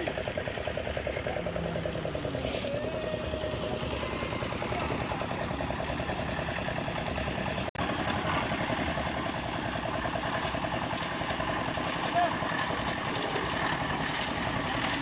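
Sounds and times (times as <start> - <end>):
engine running with rapid pulse: 0.0 - 15.0.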